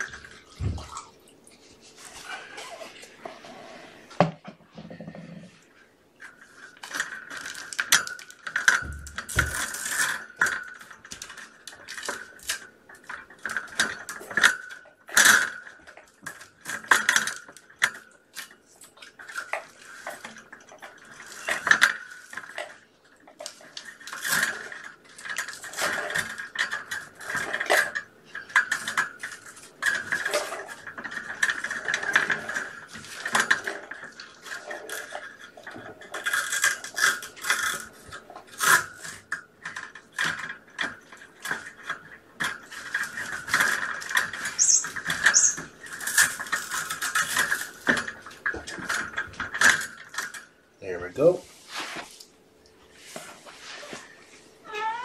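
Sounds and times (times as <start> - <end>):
handling noise on camera: 0.0 - 55.0.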